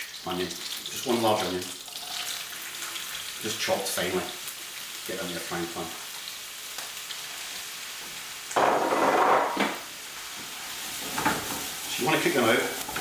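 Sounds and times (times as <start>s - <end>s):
onion sizzling in a frying pan: 0.0s - 13.0s.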